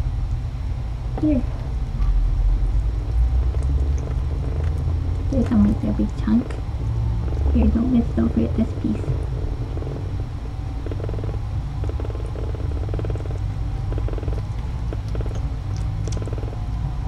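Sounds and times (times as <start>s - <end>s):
low hum: 0.0s - 17.0s
cat purring: 2.5s - 17.0s.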